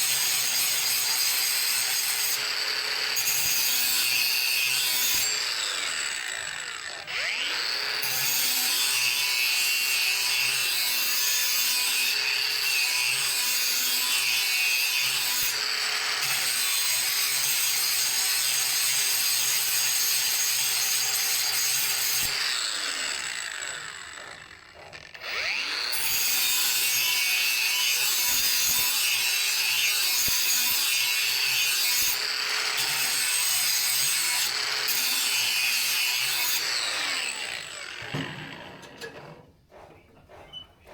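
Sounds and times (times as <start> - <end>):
electric grinder grinding steel: 0.0 - 39.2.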